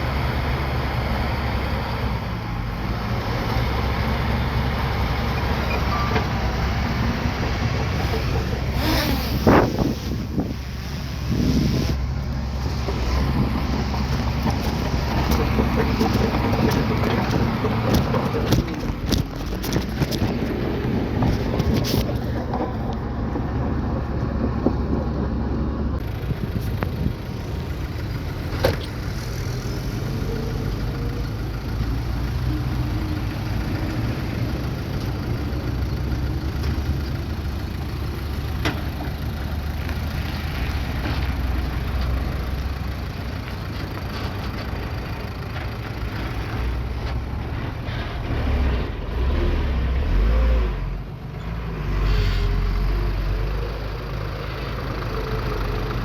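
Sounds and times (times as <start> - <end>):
bulldozer engine rumbling: 0.0 - 56.0.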